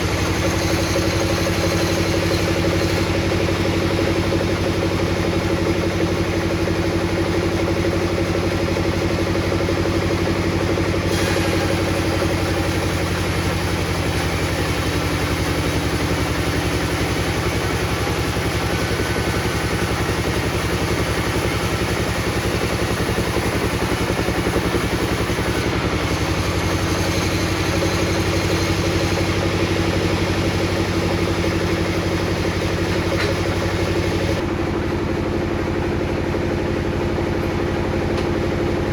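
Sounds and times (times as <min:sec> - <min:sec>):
table saw running: 0:00.0 - 0:34.4.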